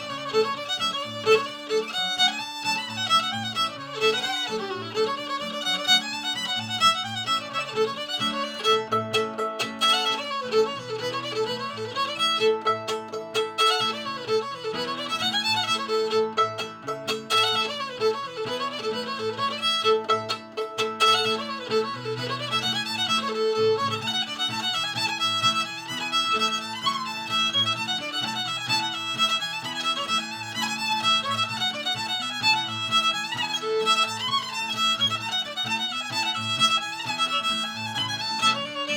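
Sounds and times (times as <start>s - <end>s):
fiddle playing a tune: 0.0s - 38.9s.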